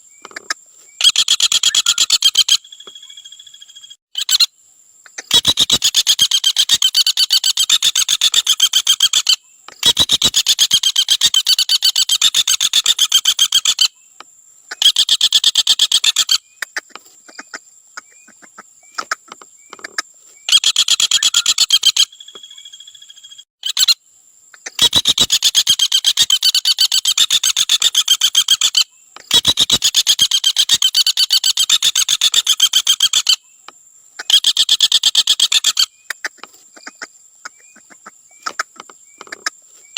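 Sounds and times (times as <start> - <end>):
woodpecker rattling call: 0.0 - 39.9.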